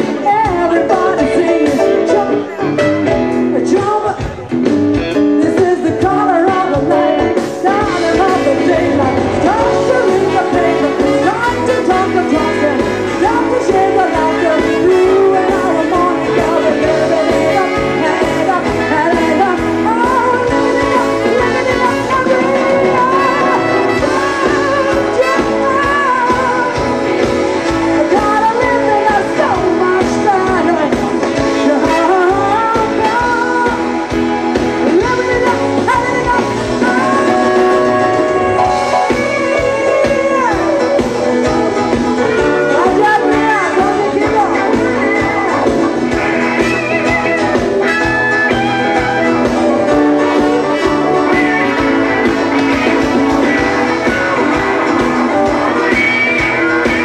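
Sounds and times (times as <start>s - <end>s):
live band playing soul-pop: 0.0s - 57.0s
person singing: 0.0s - 57.0s.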